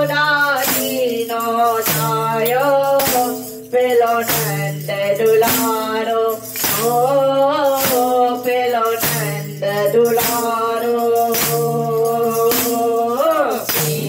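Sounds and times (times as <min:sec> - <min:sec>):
small hand cymbals: 0:00.0 - 0:14.0
woman singing: 0:00.0 - 0:14.0
wooden clappers with jingles: 0:00.0 - 0:14.0.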